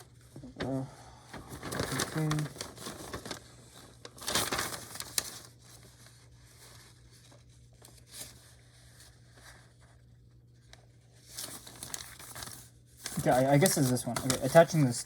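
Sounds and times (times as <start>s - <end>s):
packaging rustling and crinkling: 0.2s - 9.9s, 11.1s - 15.0s.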